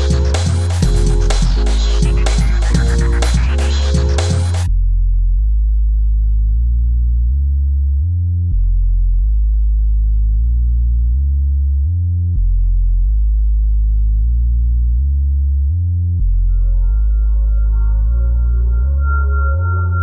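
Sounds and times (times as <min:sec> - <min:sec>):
deep synth bass line: 0:00.0 - 0:20.0.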